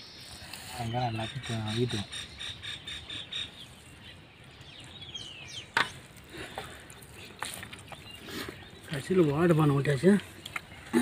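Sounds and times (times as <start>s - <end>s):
falling bird calls: 0.0s - 11.0s.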